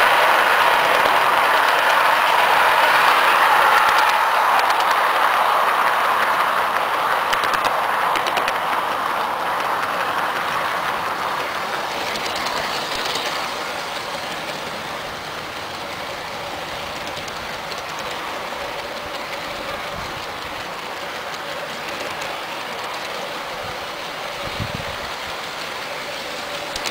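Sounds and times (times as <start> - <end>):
model train wheels rattling: 0.0 - 26.9
quick run of clicks: 0.6 - 24.5, 25.2 - 26.9.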